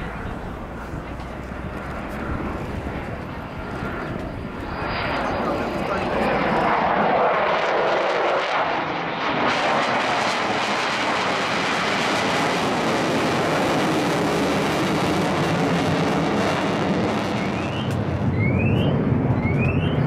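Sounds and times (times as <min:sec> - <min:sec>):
jet flying past: 0:00.0 - 0:20.0.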